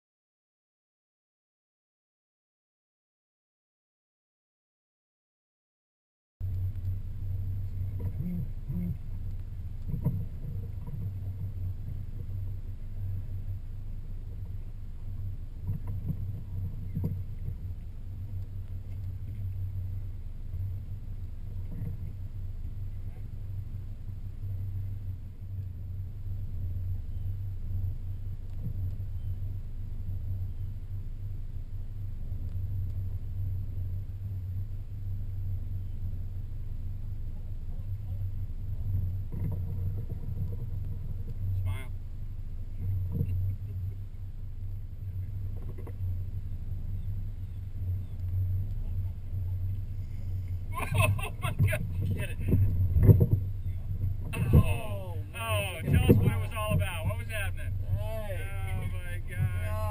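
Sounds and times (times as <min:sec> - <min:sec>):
small boat motor humming: 0:06.4 - 0:59.9.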